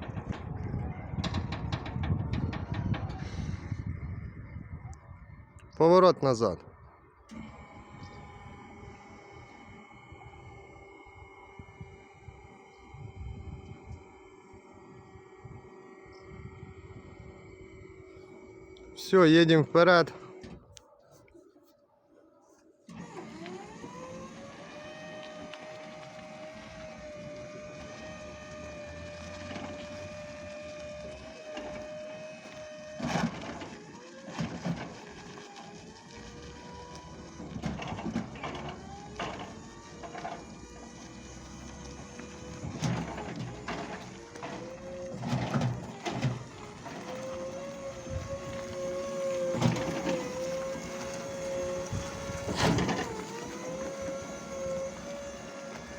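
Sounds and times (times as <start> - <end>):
electric motor whining: 7.3 - 20.6, 22.9 - 55.9.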